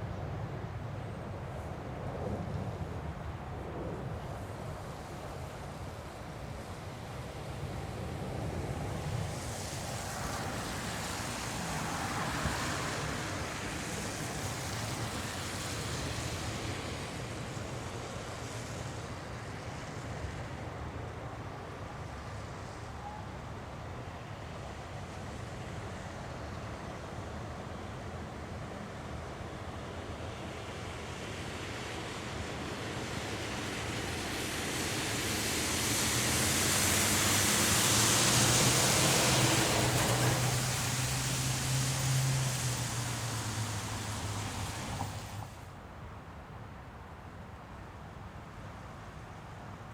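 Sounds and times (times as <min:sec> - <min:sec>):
jet engines rumbling and hissing: 0:00.0 - 0:46.8.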